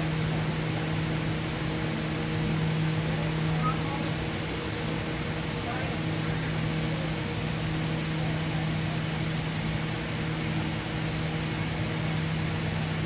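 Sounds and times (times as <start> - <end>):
constant low drone: 0.0 - 13.0
ventilation fans rushing hum: 0.0 - 13.0.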